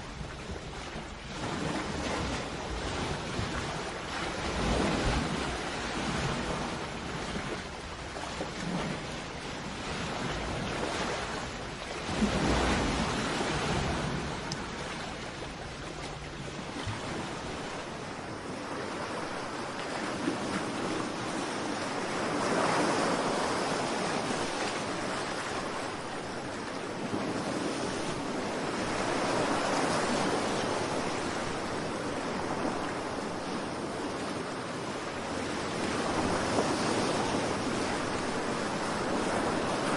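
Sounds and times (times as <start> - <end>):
ocean waves washing onto shore: 0.0 - 39.9
wind rumbling on microphone: 0.0 - 39.9.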